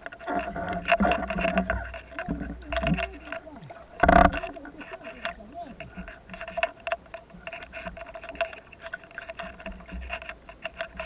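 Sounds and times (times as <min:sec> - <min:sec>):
steady underwater hum: 0:00.0 - 0:11.0
underwater clicking and crackling: 0:00.0 - 0:11.0.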